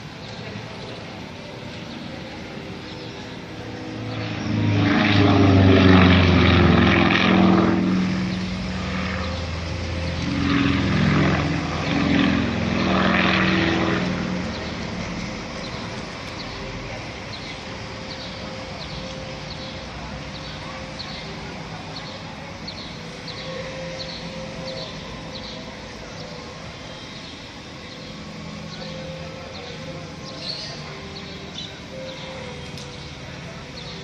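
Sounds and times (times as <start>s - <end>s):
distant propeller aircraft drone: 0.0s - 34.0s.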